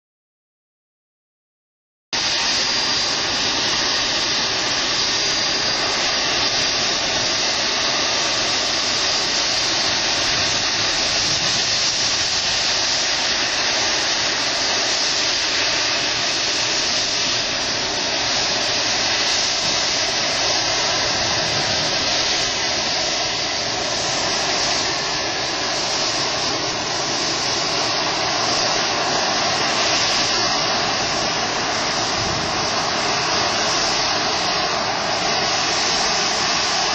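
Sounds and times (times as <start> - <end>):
high-pitched engine whine: 2.2 - 36.9
jet engines hissing: 2.2 - 36.9.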